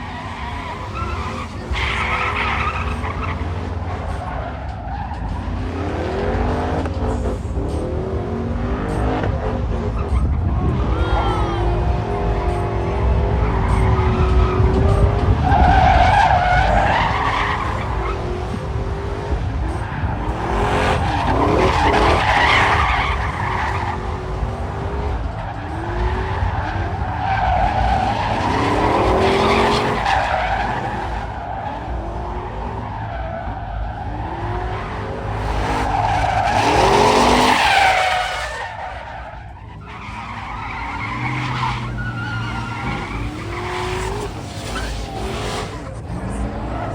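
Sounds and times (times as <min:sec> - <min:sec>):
car engines revving hard: 0:00.0 - 0:46.9
tyres squealing and skidding: 0:00.0 - 0:46.9.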